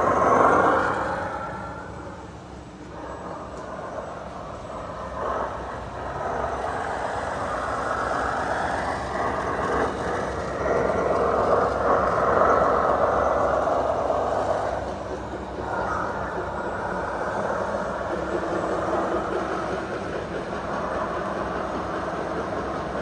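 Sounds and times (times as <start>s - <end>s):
small motors whirring: 0.0s - 23.0s.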